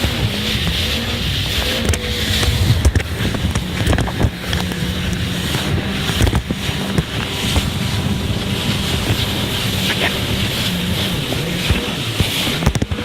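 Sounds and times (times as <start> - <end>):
jet ski engine humming: 0.0 - 13.0
rushing water: 0.0 - 13.0
wind buffeting microphone: 0.0 - 13.0.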